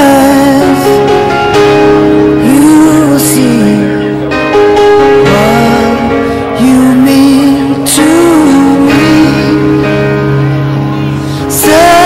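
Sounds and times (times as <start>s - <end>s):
person singing: 0.0s - 12.0s
steady held chords: 0.0s - 12.0s.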